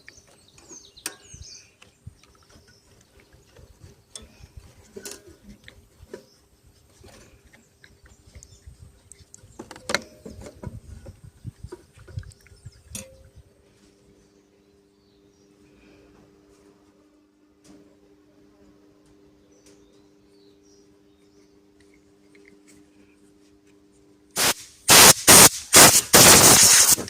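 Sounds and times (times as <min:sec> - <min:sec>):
birds chirping faintly: 0:00.0 - 0:24.2.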